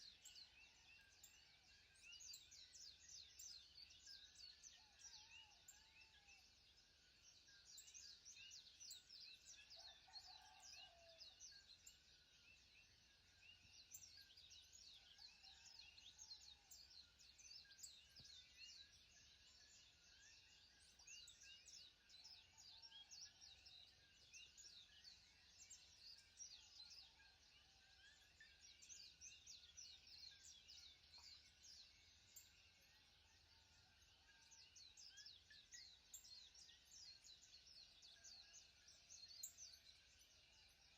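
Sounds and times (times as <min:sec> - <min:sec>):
small birds chirping: 0:00.0 - 0:06.3, 0:07.5 - 0:12.0, 0:12.8 - 0:40.9.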